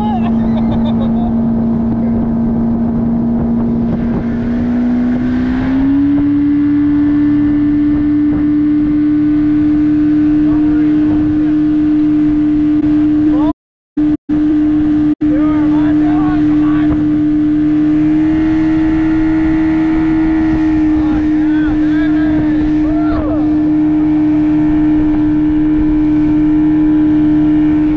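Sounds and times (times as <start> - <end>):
outboard motor whine: 0.0 - 27.9
wind and water rushing: 0.0 - 27.9.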